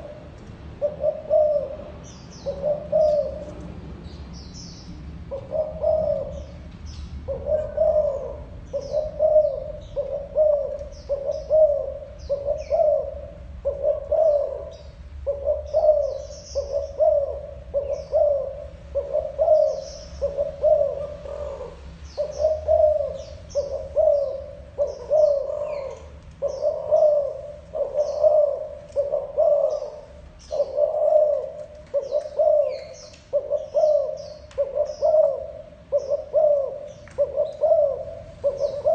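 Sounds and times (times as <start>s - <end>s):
dove cooing: 0.0s - 3.8s, 4.4s - 38.9s
small birds chirping: 0.0s - 38.9s.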